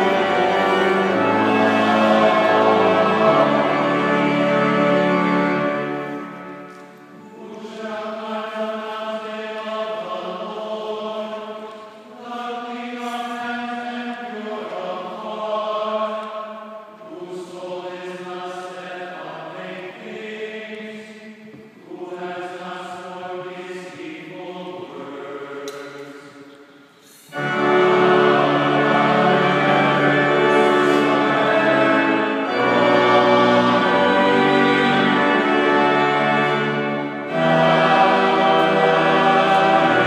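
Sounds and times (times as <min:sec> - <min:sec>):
choir singing slow chant: 0:00.0 - 0:40.0.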